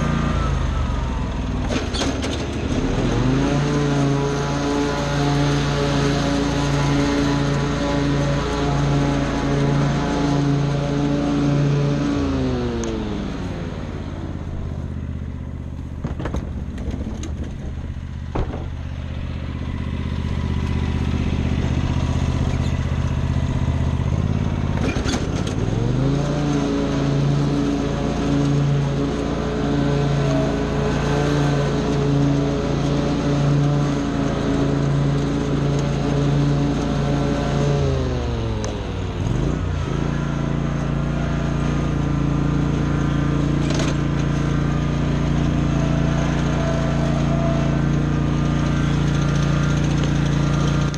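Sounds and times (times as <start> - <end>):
small gasoline engine running: 0.0 - 50.9.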